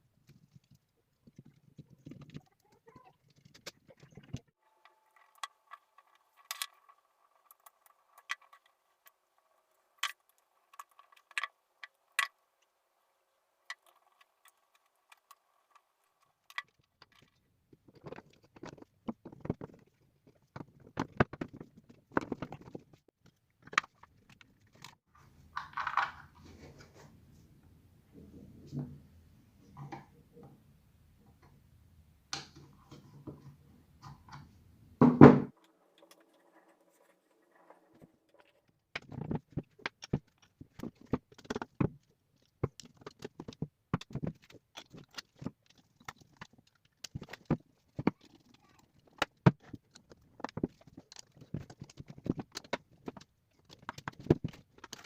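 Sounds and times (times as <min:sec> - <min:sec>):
small parts clicking and knocking: 0:00.0 - 0:26.4, 0:35.5 - 0:55.0.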